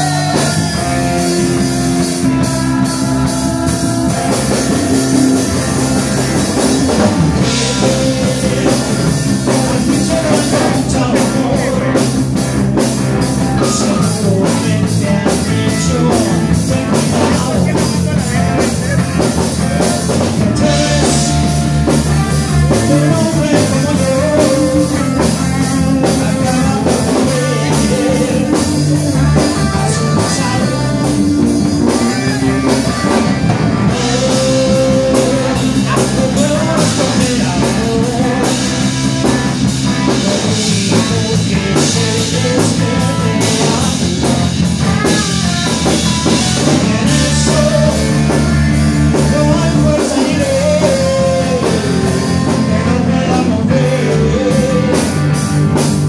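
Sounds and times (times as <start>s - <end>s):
man singing: 0.0s - 55.6s
live rock band playing: 0.0s - 56.0s.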